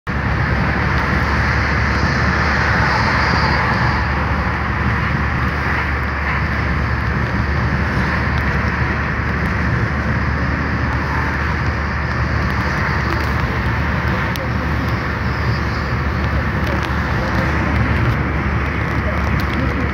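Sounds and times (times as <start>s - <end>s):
car road noise from cabin: 0.1s - 19.9s.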